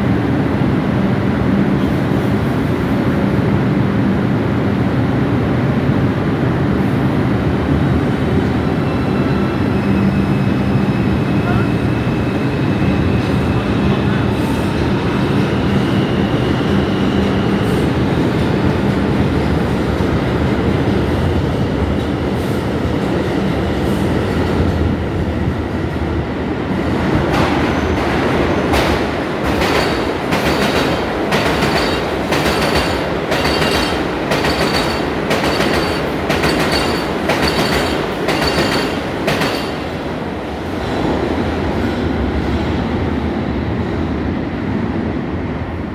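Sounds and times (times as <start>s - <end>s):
subway train rumbling: 0.0s - 45.9s.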